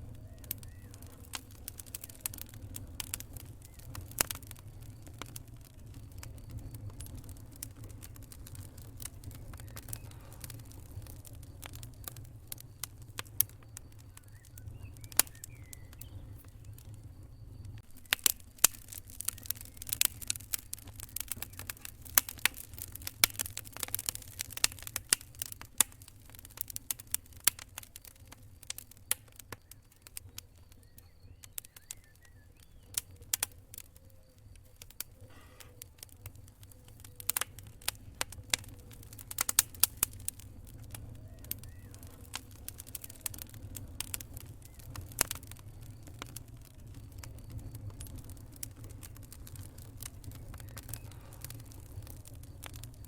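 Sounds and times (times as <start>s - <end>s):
campfire crackling and popping: 0.0s - 53.0s
faint cricket trill: 0.0s - 53.0s.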